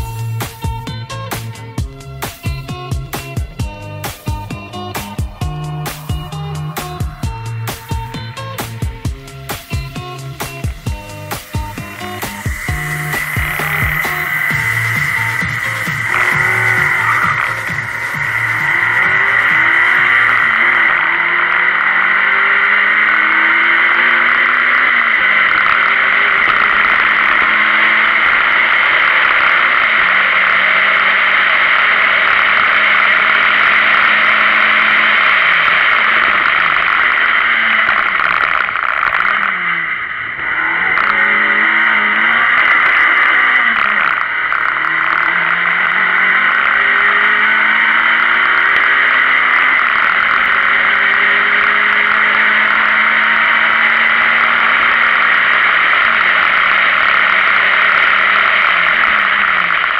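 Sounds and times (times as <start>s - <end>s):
car engine revving through gears: 0.0s - 59.9s
wind and road noise: 3.2s - 59.9s.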